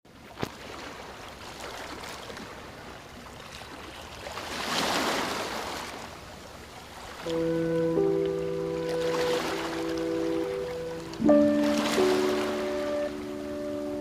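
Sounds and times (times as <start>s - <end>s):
sea waves washing: 0.5s - 14.0s.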